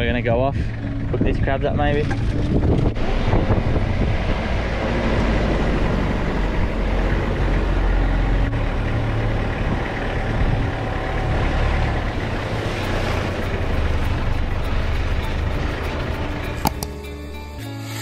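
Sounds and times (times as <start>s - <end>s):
tyres on dirt track: 0.0s - 17.6s
diesel engine driving: 0.0s - 17.8s.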